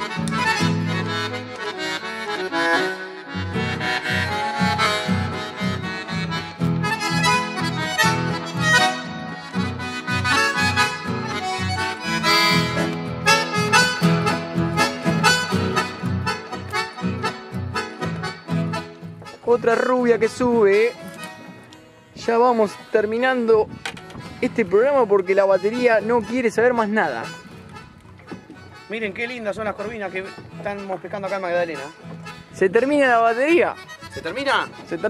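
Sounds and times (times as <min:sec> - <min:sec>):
upbeat instrumental music: 0:00.0 - 0:35.0.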